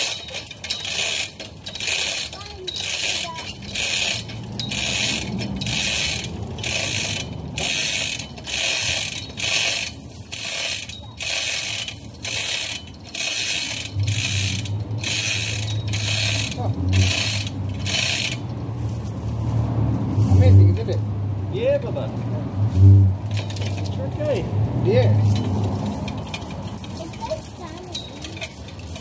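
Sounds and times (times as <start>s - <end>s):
chain hoist clicking and rattling: 0.0s - 29.0s.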